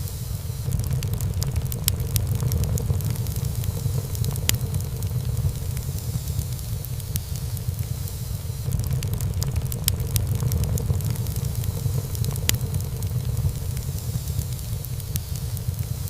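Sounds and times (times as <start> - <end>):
low rumble of flames: 0.0 - 16.0
burning wood crackling: 0.1 - 16.0.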